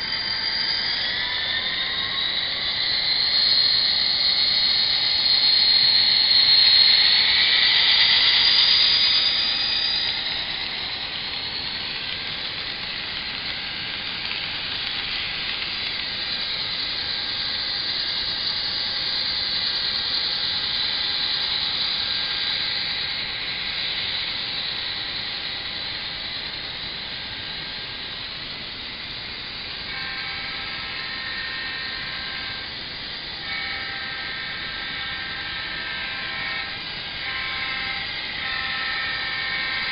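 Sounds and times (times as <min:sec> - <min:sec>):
hissy diesel engine sound: 0:00.0 - 0:39.9.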